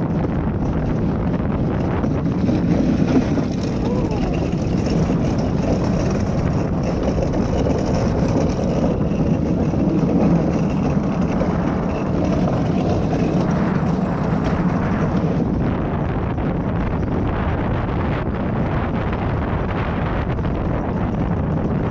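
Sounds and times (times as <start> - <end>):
cart rolling on paved track: 0.0 - 21.9
wind on microphone: 0.0 - 21.9.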